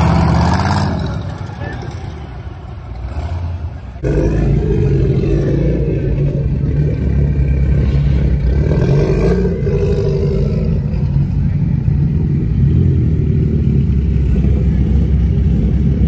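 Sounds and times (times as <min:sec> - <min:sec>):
car pulling away: 0:00.0 - 0:16.0.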